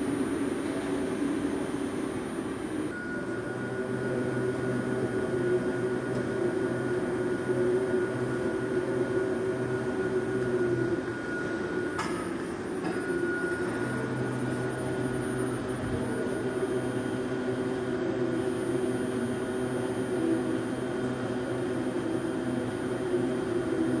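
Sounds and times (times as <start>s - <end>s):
boring machine humming: 0.0s - 24.0s
high whine and low drone: 0.0s - 24.0s.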